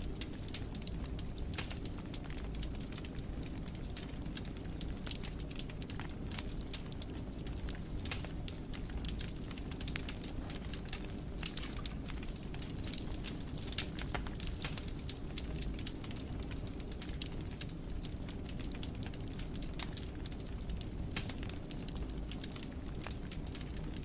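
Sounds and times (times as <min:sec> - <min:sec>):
low rumble of flames: 0:00.0 - 0:24.0
wood fire pops and snaps: 0:00.0 - 0:24.0.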